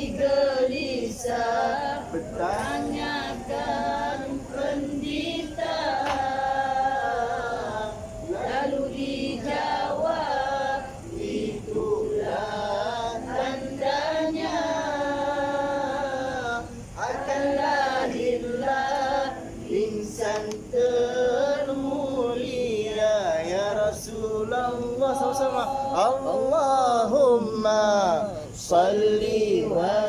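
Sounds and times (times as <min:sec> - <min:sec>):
man singing devotional song: 0:00.0 - 0:30.0.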